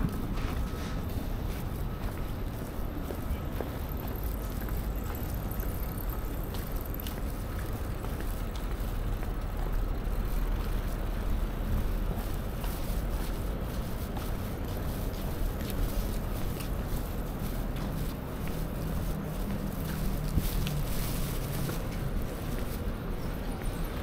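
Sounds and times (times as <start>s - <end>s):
bicycle tyres rolling on pavement: 0.0s - 24.0s.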